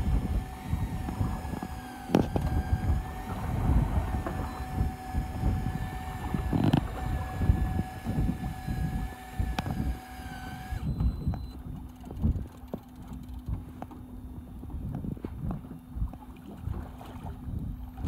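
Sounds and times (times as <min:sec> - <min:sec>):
steady mechanical hum: 0:00.0 - 0:18.0
wind buffeting microphone: 0:00.0 - 0:18.0.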